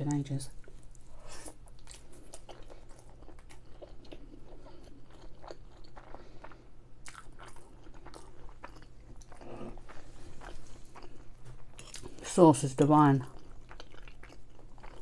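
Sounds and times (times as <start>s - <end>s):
chewing with wet mouth clicks: 1.6s - 12.2s, 13.2s - 15.0s.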